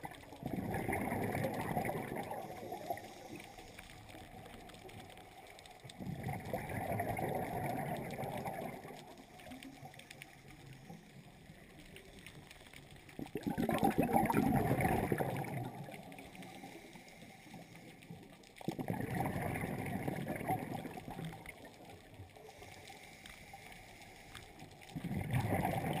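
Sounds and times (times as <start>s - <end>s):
underwater breath bubbles: 0.0s - 5.0s, 5.8s - 12.3s, 13.1s - 26.0s
faint steady hiss: 0.0s - 26.0s.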